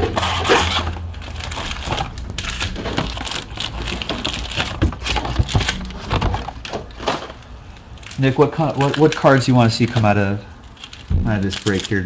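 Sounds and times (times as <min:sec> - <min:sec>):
foil packs crinkling and rustling: 0:00.0 - 0:12.0.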